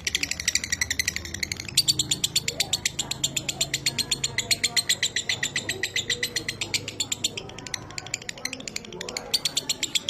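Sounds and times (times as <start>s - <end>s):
lovebird chattering: 0.0s - 10.0s.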